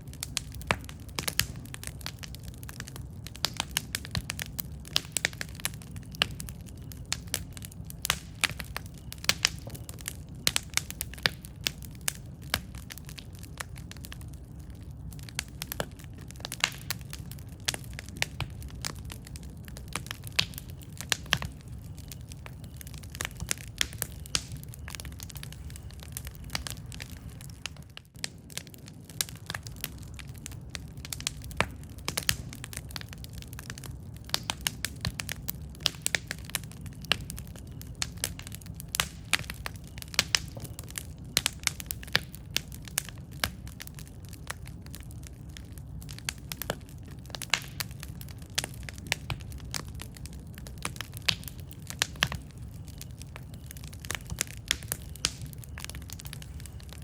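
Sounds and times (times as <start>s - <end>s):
campfire crackling: 0.0s - 57.0s
fire low rumble: 0.0s - 57.0s.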